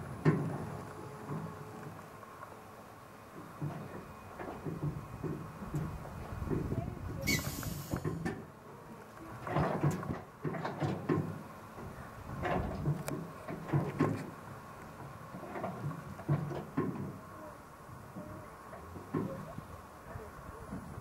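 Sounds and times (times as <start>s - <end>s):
low running rumble: 0.0s - 21.0s
railway cars knocking and rattling: 0.0s - 21.0s.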